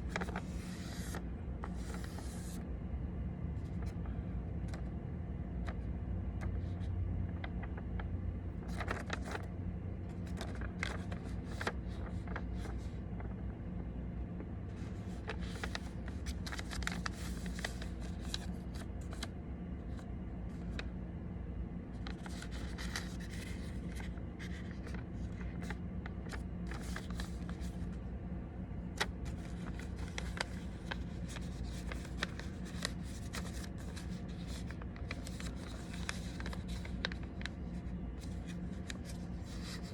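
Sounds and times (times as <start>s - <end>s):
paper being folded and creased: 0.0s - 2.7s, 3.6s - 4.9s, 5.6s - 13.5s, 14.4s - 21.0s, 21.9s - 28.0s, 28.8s - 39.9s
steady low hum: 0.0s - 39.9s.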